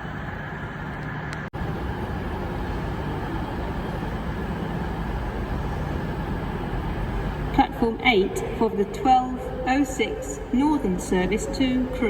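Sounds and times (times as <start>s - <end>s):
busy train station rumble: 0.0s - 12.0s.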